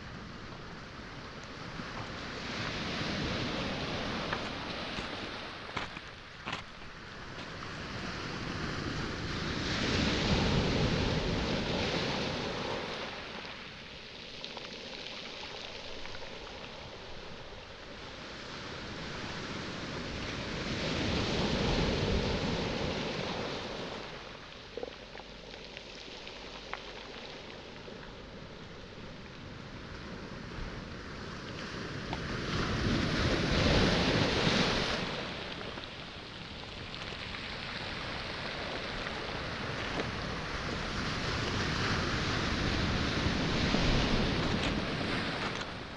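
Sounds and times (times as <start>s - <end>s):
waves breaking on pebble shore: 0.0s - 45.9s.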